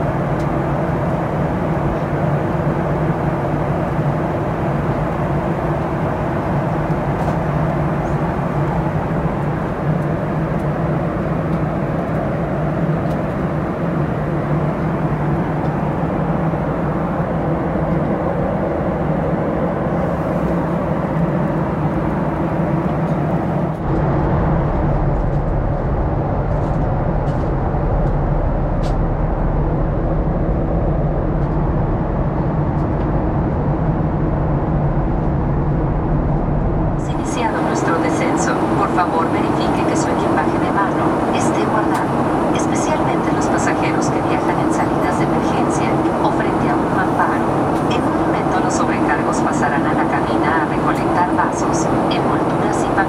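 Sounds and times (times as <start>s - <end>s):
aircraft engines droning: 0.0s - 53.0s
constant low hum: 0.0s - 53.0s.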